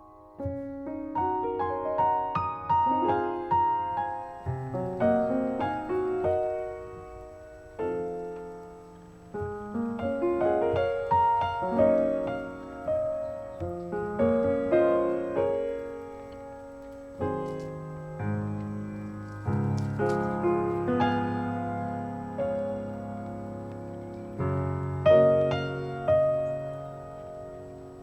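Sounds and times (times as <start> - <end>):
solo piano music: 0.0 - 28.0.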